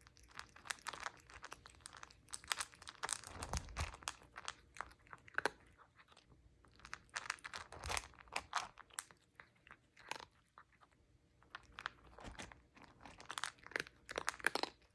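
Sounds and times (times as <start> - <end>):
cat chewing and crunching food: 0.0 - 14.9.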